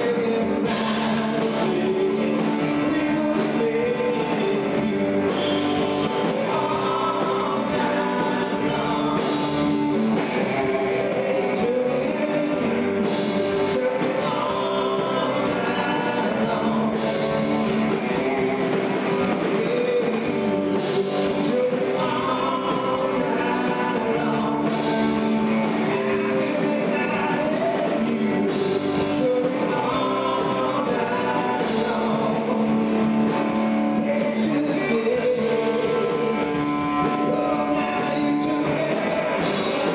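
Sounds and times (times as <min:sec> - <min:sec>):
country-rock band with singer: 0:00.0 - 0:39.9.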